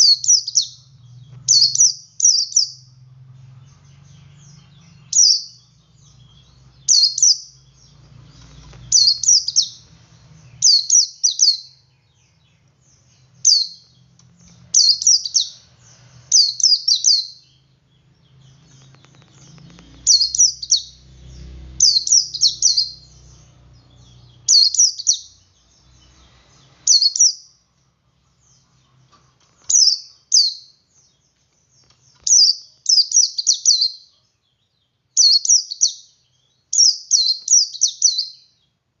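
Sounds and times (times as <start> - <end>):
bird chirping: 0.0 - 39.0
faint low hum: 0.0 - 39.0.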